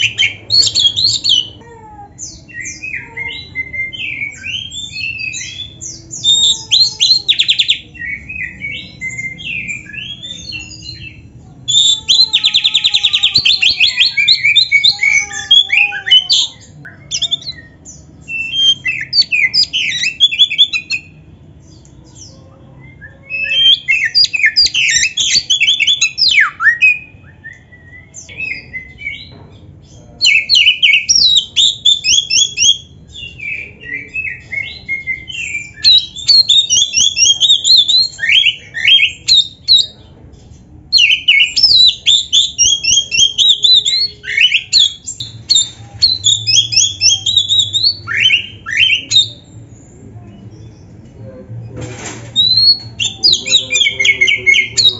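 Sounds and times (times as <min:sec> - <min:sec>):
bird singing: 0:00.0 - 0:51.2, 0:52.4 - 0:54.9.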